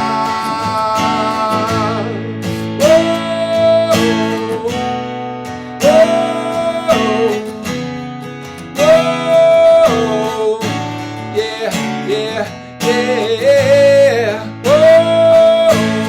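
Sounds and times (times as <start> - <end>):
acoustic guitar strummed: 0.0 - 16.0.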